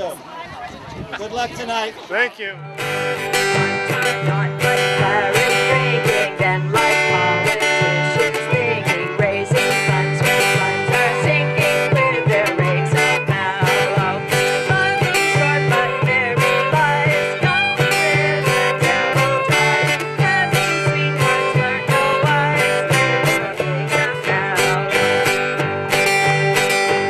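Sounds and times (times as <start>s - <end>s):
strummed guitar music: 2.4s - 27.0s.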